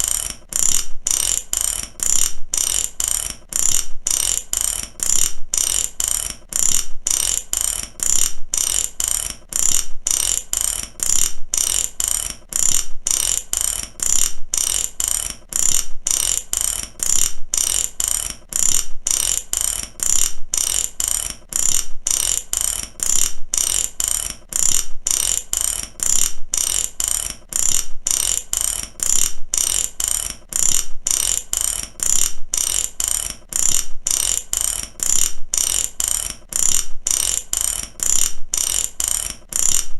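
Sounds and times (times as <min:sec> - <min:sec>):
ratchet clicking: 0:00.0 - 0:39.9.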